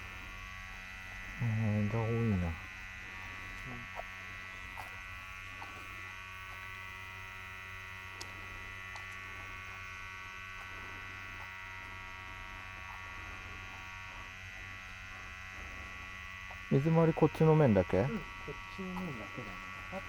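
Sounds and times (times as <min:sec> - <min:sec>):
small motor buzzing: 0:00.0 - 0:20.0.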